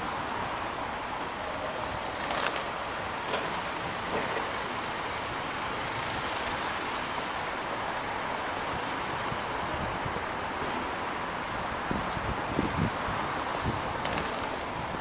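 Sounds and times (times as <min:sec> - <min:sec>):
distant road traffic hiss: 0:00.0 - 0:15.0.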